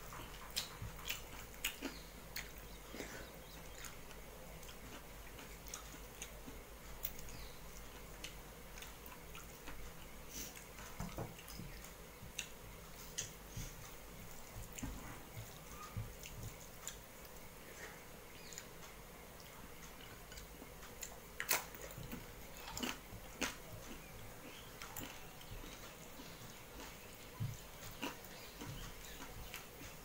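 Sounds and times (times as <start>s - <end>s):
chewing and mouth sounds: 0.1s - 18.7s, 19.4s - 30.0s.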